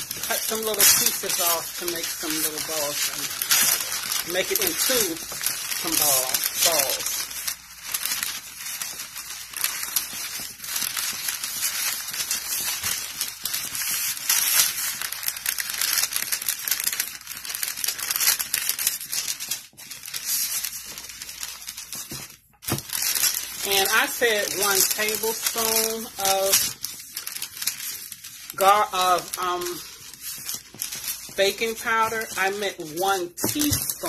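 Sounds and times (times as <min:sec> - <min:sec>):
parchment paper crinkling: 0:00.0 - 0:34.0.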